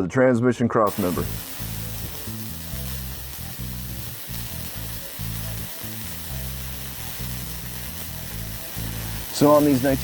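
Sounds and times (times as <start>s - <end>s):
background music with bass line: 0.9s - 10.0s
steady hiss: 0.9s - 10.0s.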